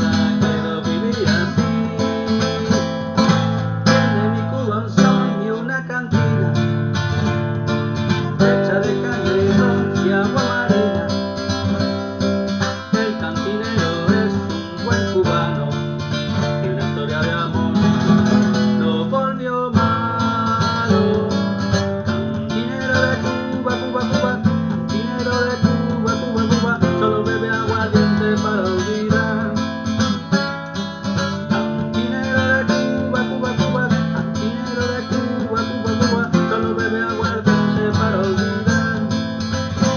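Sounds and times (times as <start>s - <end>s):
acoustic guitar rumba rhythm: 0.0s - 39.9s.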